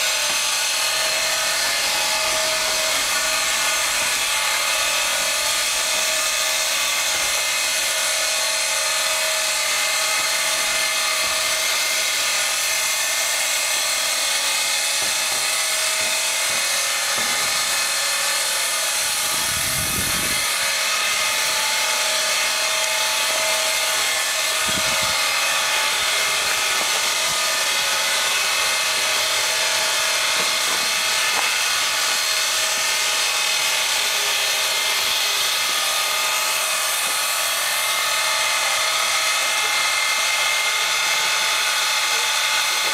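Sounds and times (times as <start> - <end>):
machinery whine: 0.0 - 42.9
steam hissing: 0.0 - 42.9.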